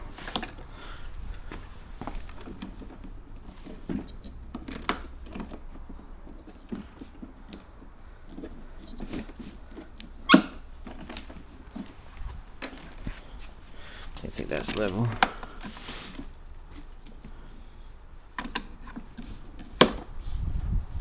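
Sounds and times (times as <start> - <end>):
plastic parts knocking and rustling: 0.0 - 20.3.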